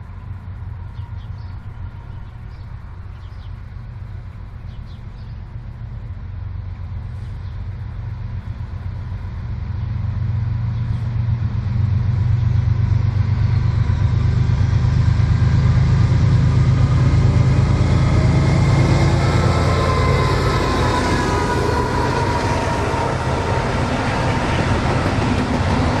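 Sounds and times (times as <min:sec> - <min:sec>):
freight train locomotives approaching: 0:00.0 - 0:26.0.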